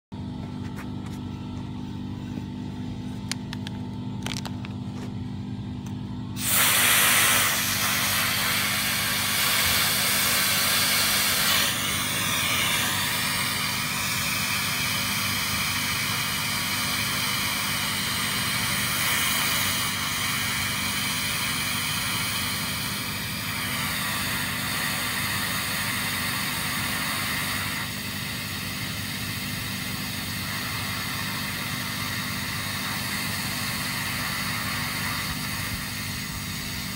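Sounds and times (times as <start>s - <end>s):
low hum: 0.1s - 36.9s
smoke jetting hiss: 6.4s - 36.9s.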